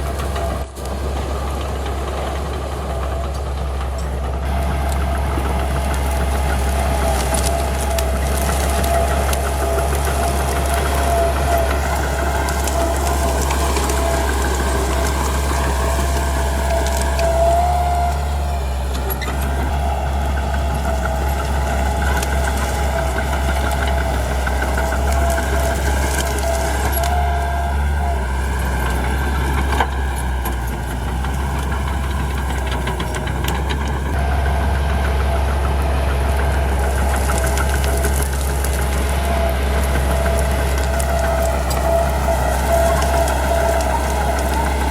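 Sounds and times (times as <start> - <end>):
bulldozer diesel engine: 0.0 - 44.9
track clatter: 0.0 - 44.9.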